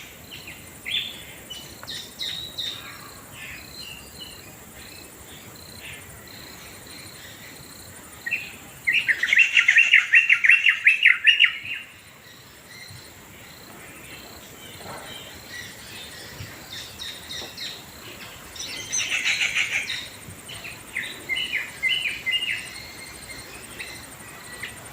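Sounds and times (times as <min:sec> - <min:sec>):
birds chattering calls: 0:00.0 - 0:24.9
high insect trill: 0:00.0 - 0:24.9.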